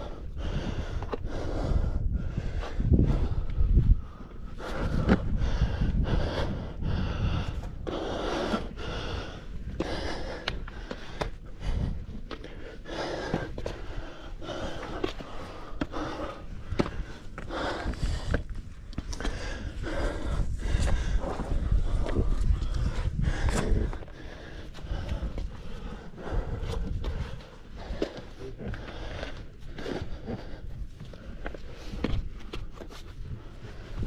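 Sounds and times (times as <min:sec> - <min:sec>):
person panting: 0:00.0 - 0:34.0.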